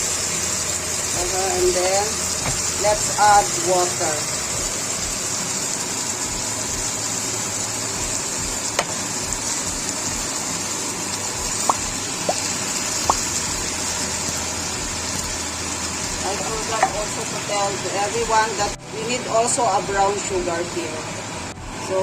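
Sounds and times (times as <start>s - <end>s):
sauce sizzling in a frying pan: 0.0s - 22.0s.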